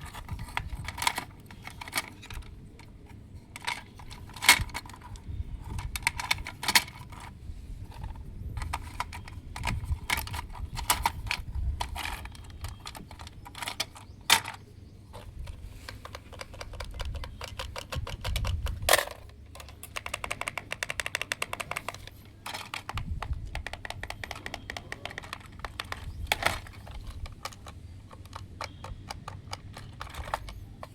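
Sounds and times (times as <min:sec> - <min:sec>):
small hard objects clicking: 0:00.0 - 0:03.0, 0:03.6 - 0:07.3, 0:07.9 - 0:30.9.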